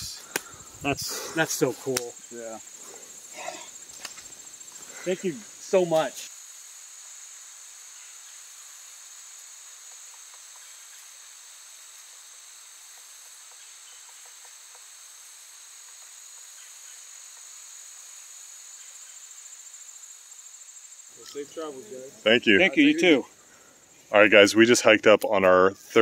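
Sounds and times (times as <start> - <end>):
insect pulsing trill: 0.0 - 25.0
insects droning shrilly: 0.0 - 25.2.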